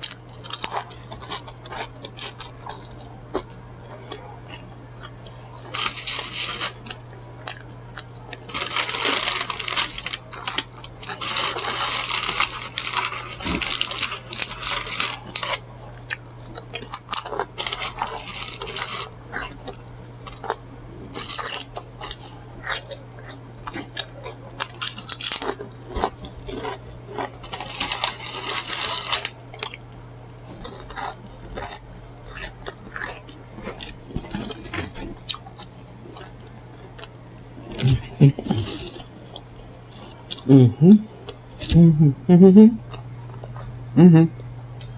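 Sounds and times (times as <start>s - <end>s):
chewing and crunching food: 0.0s - 41.8s, 42.8s - 43.8s
low steady hum: 0.0s - 44.9s.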